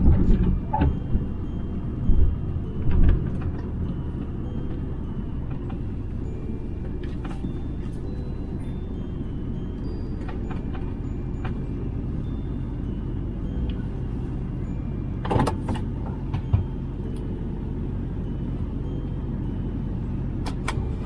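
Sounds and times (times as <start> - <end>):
pickup truck engine running: 0.0 - 21.0.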